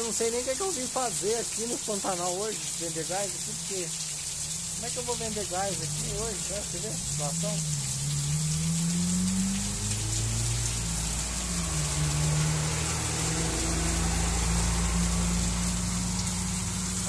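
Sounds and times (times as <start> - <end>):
heavy rain on roof and pavement: 0.0 - 17.0
truck engine passing on wet road: 0.0 - 17.0.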